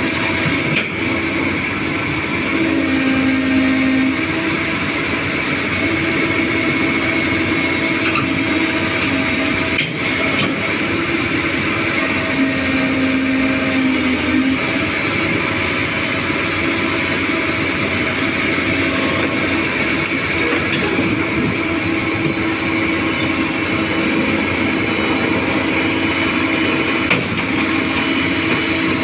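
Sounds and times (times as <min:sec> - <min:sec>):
excavator diesel engine running: 0:00.0 - 0:29.0
hydraulic whine shifting pitch: 0:00.0 - 0:29.0.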